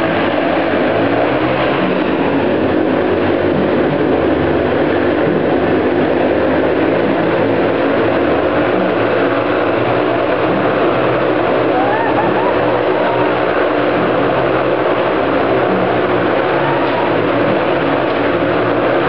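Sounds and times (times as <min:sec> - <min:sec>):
motorcycle engines running loudly: 0:00.0 - 0:19.0.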